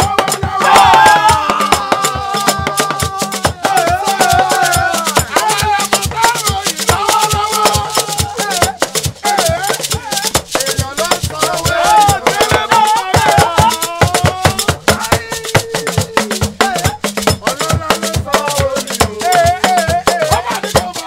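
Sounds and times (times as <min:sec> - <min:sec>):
men singing in chorus: 0:00.0 - 0:21.0
rattling percussion: 0:00.0 - 0:21.0
talking drums: 0:00.0 - 0:21.0.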